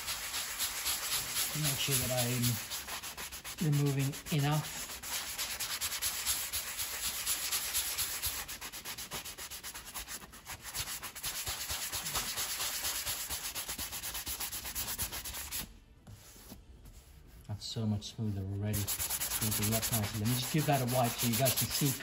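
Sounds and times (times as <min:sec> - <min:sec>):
sanding pad rasping on vinyl: 0:00.0 - 0:16.6, 0:18.7 - 0:22.0.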